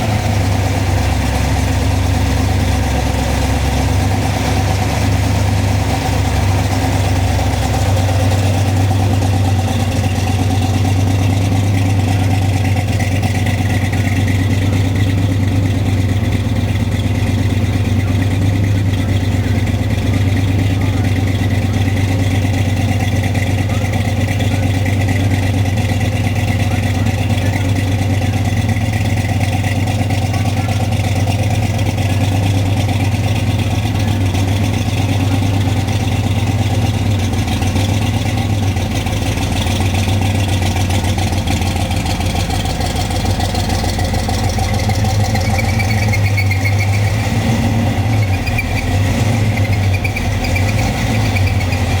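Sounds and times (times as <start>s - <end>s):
truck engine idling loudly: 0.0s - 52.0s.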